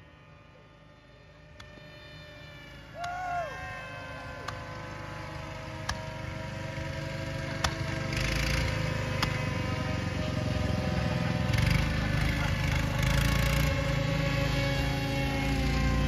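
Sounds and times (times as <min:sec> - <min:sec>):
model airplane engines droning: 0:00.0 - 0:16.0.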